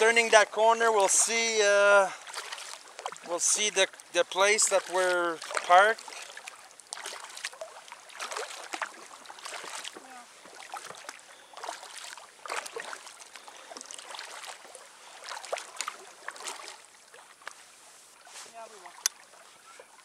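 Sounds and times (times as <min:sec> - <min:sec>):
paddle splashing in water: 0:00.0 - 0:20.0.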